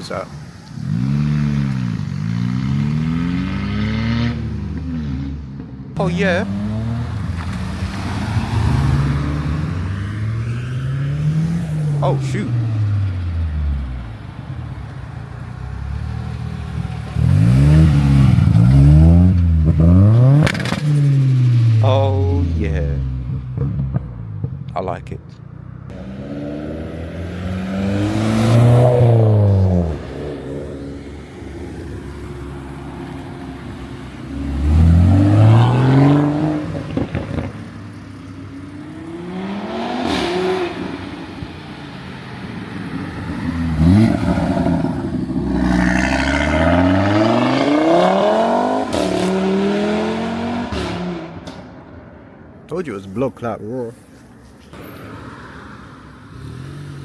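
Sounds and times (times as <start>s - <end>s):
cars accelerating hard: 0.1s - 14.3s, 15.6s - 24.5s, 25.9s - 52.0s.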